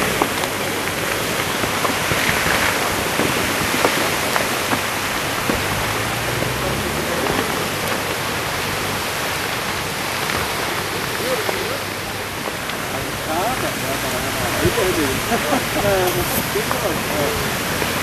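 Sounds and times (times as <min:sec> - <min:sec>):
roar of erupting lava: 0:00.0 - 0:18.0.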